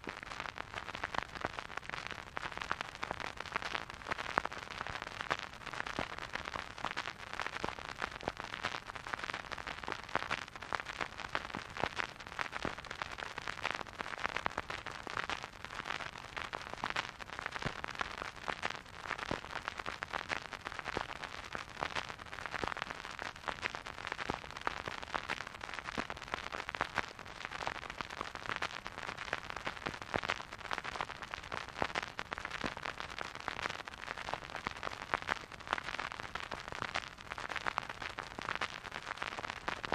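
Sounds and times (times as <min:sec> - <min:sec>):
vinyl record crackle and hiss: 0:00.0 - 0:39.9.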